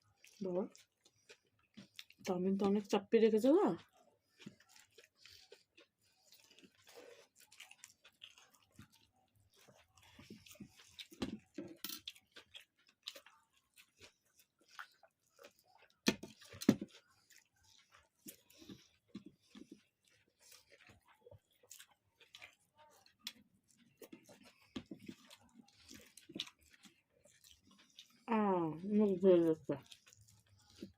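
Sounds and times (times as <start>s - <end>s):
chewing: 0.0s - 30.9s.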